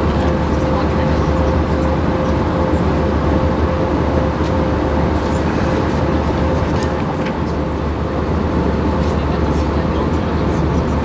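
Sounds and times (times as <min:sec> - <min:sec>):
airplane cabin airflow and engine: 0:00.0 - 0:11.0.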